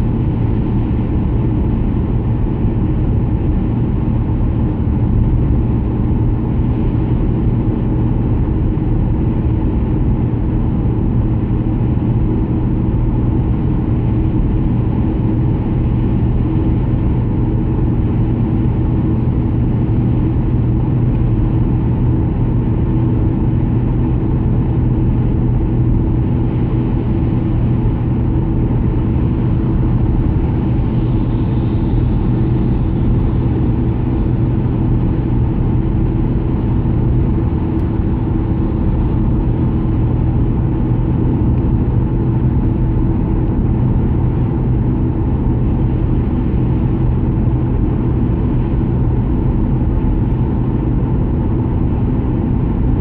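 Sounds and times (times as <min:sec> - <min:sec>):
car road and engine drone: 0:00.0 - 0:53.0.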